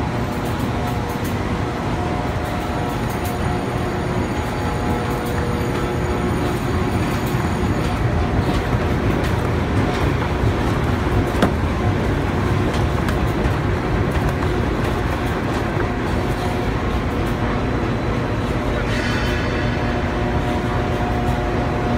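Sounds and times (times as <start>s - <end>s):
printing machine rumbling: 0.0s - 18.8s.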